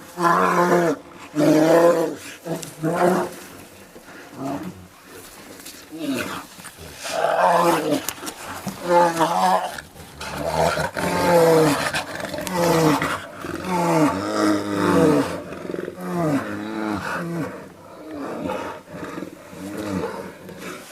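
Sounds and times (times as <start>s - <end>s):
bears roaring: 0.0s - 20.9s.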